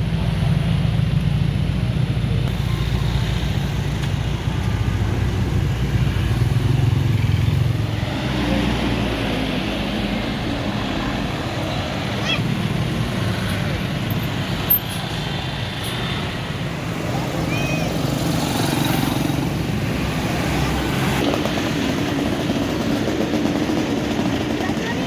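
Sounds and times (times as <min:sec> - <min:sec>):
bus engine rumble: 0:00.0 - 0:25.0
traffic noise: 0:00.0 - 0:25.0.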